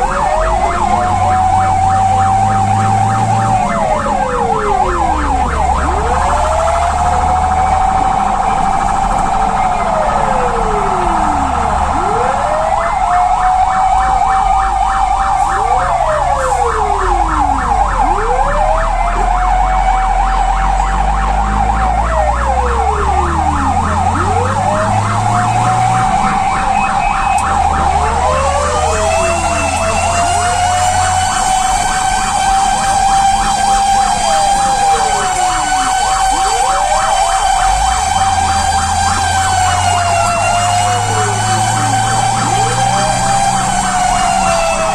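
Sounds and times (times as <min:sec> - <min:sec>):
truck engine rumble: 0:00.0 - 0:44.9
wailing siren: 0:00.0 - 0:44.9
yelping siren: 0:00.0 - 0:44.9.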